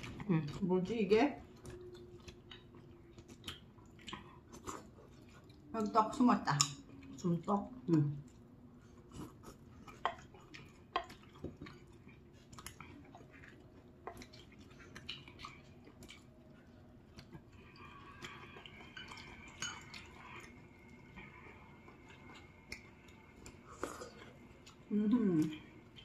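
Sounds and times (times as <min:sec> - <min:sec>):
chewing: 0:01.3 - 0:26.0.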